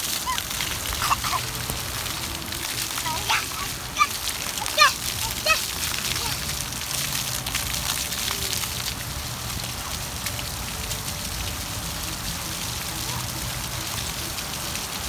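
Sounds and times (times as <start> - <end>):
fountain water jets spattering: 0.0 - 15.0.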